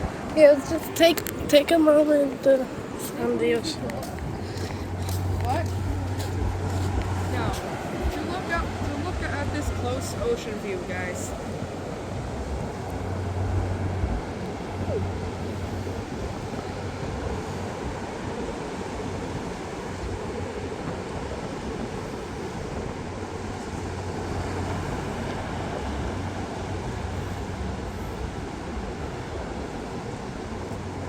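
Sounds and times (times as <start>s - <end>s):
low rumble: 0.0s - 31.0s
surf washing onto beach: 0.0s - 31.0s.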